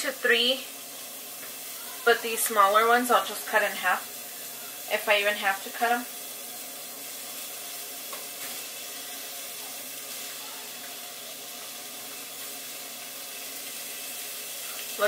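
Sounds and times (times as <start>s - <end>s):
pork sizzling in pot: 0.0s - 15.0s.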